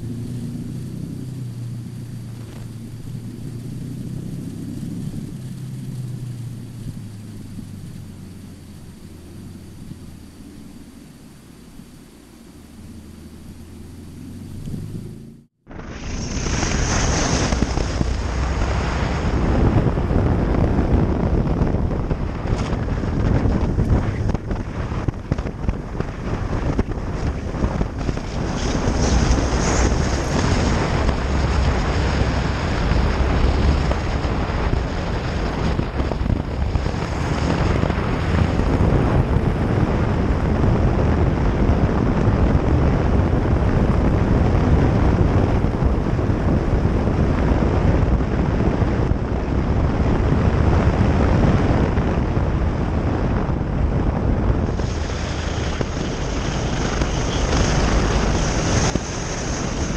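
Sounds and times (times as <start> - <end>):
motorcycle engine running: 0.0 - 59.9
tyres on gravel road: 0.0 - 59.9
wind buffeting microphone: 0.0 - 59.9.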